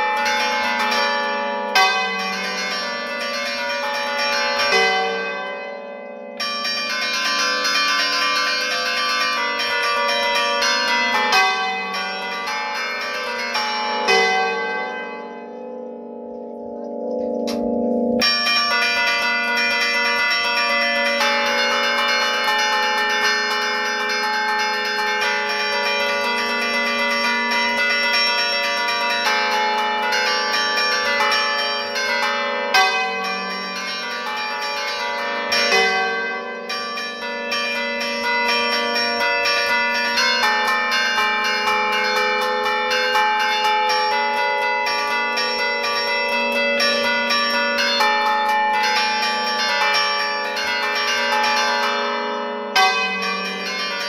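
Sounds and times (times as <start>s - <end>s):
church bells ringing a tune: 0.0s - 54.0s.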